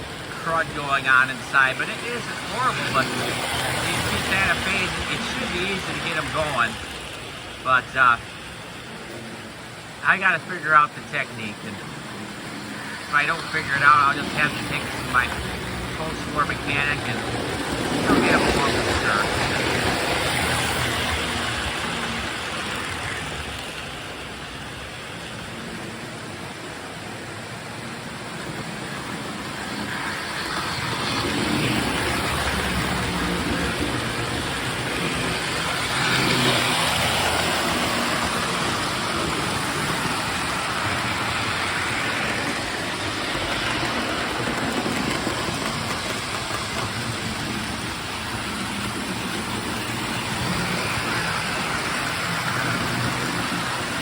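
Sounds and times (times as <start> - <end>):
model train motor hum: 0.0 - 54.0.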